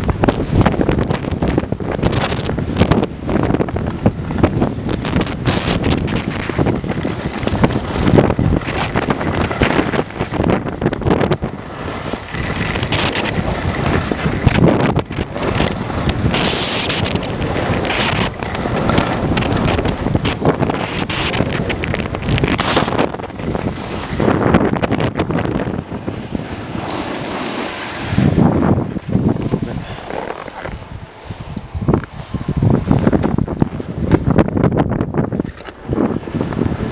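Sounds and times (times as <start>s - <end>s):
wind buffeting microphone: 0.0s - 36.9s
skis scraping over snow: 0.1s - 34.4s, 35.2s - 36.9s.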